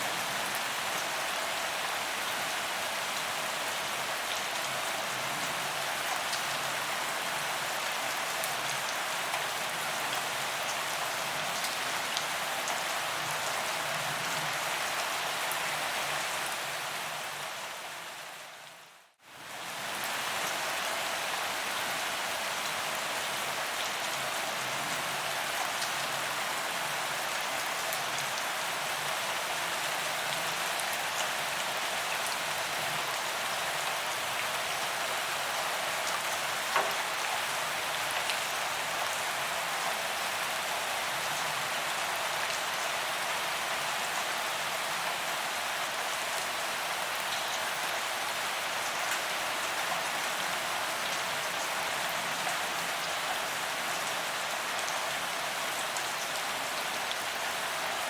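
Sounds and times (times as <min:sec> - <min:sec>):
rain on pavement: 0:00.0 - 0:58.0.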